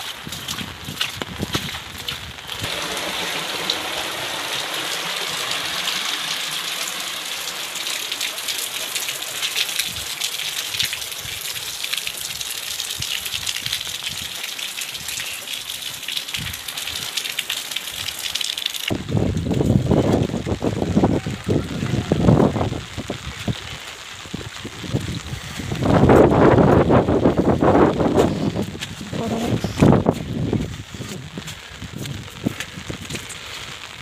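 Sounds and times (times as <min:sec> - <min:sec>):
heavy rain: 0:00.0 - 0:34.0
rainwater running: 0:00.0 - 0:34.0.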